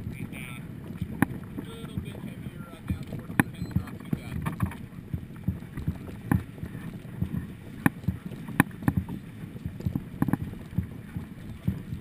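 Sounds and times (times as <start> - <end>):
low water wash: 0.0 - 12.0
water slapping against boat hull: 0.0 - 12.0.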